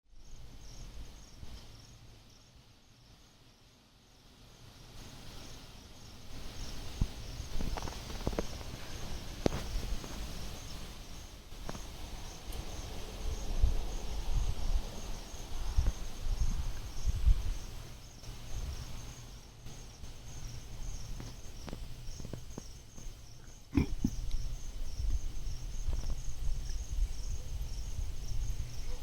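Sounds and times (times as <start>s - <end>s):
crickets chirping: 0.1s - 29.0s
wind gusting on microphone: 5.0s - 29.0s.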